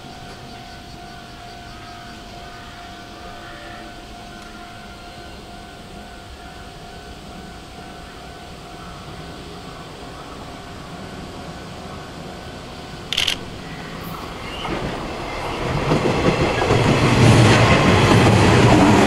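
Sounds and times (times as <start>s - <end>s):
constant high-pitched tone: 0.0s - 15.9s
electric train rumble: 0.0s - 19.0s.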